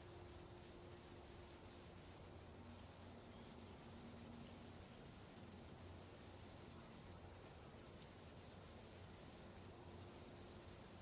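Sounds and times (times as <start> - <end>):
small bird chirping: 0.0 - 11.0
steady low hum: 0.0 - 11.0.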